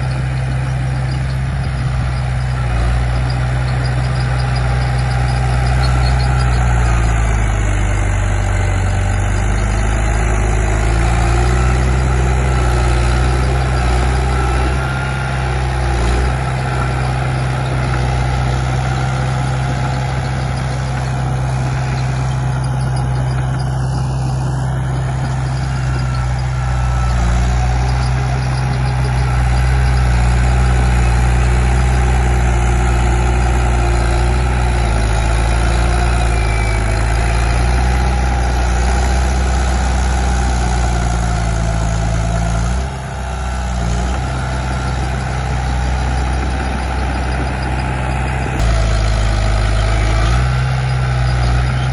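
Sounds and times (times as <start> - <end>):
bulldozer diesel engine humming: 0.0 - 51.9.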